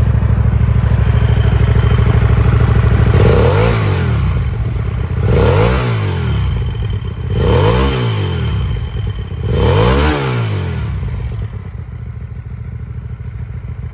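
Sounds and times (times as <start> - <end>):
motorcycle engine idling: 0.0 - 13.9
motorcycle engine revving: 0.0 - 13.9.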